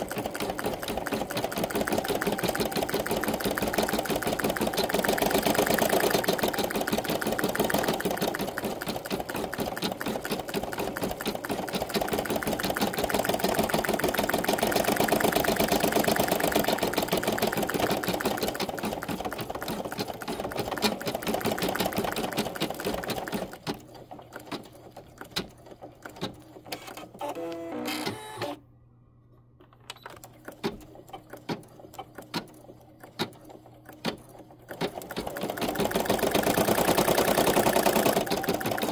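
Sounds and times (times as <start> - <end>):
embroidery machine stitching: 0.0 - 28.6, 30.3 - 38.9.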